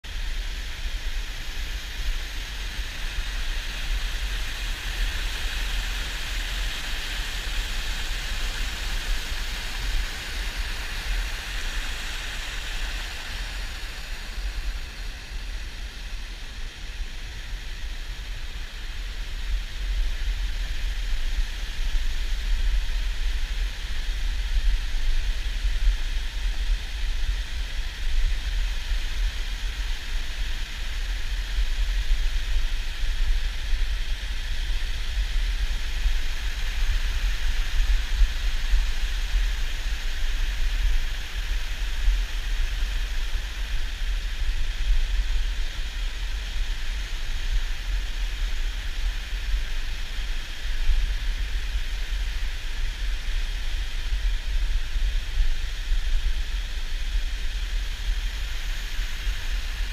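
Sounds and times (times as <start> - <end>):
waterfall rushing over rock: 0.1 - 59.9.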